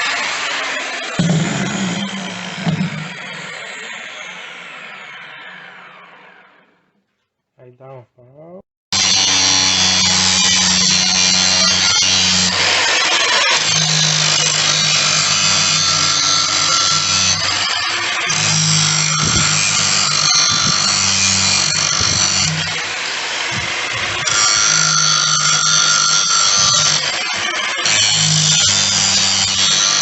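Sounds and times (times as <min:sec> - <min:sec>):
angle grinder cutting steel: 0:00.0 - 0:06.8, 0:09.0 - 0:30.0.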